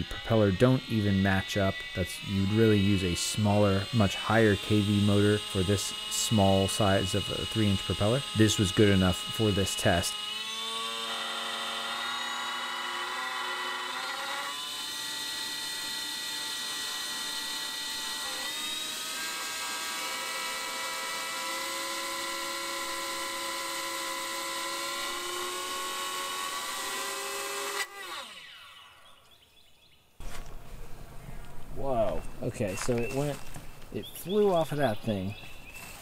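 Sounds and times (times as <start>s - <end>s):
drone motor whine: 0.0s - 29.2s.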